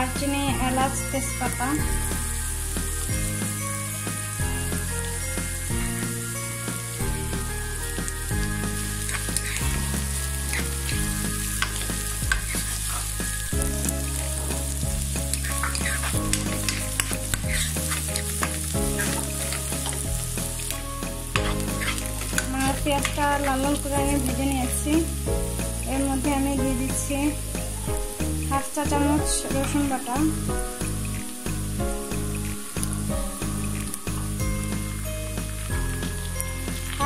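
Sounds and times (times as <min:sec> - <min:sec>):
onions sizzling in hot oil: 0:00.0 - 0:37.0
wooden spatula scraping pan: 0:02.9 - 0:37.0.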